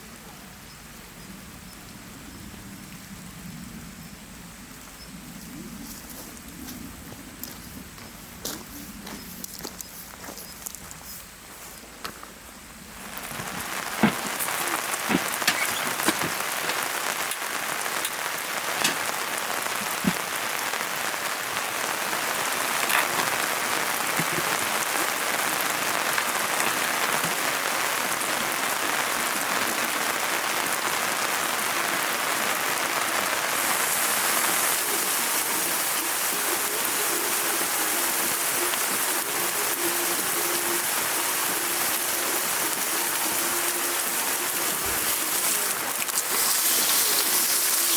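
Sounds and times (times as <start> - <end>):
steady rain hiss: 0.0 - 47.9
raindrops ticking: 6.3 - 11.0, 12.9 - 47.9.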